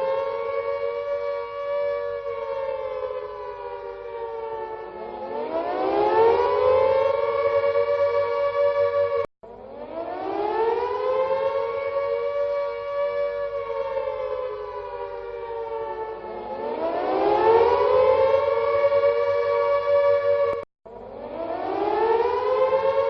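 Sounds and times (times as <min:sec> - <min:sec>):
air raid siren wailing: 0:00.0 - 0:23.0.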